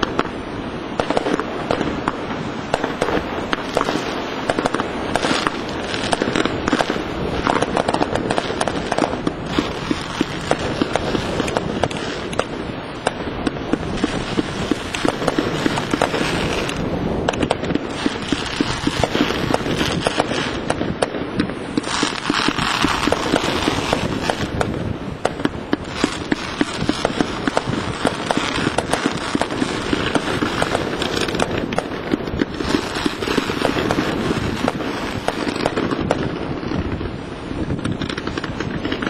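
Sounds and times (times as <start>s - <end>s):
fireworks popping and crackling: 0.0s - 39.0s.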